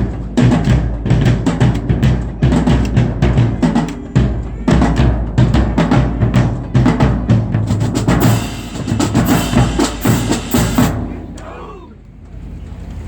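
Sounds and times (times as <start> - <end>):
snare drums beating: 0.0 - 11.4
bass drums beating: 0.0 - 11.9.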